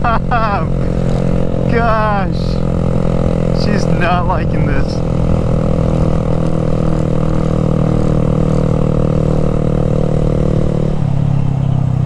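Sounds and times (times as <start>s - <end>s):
loud motorcycle engine straining: 0.0s - 12.0s.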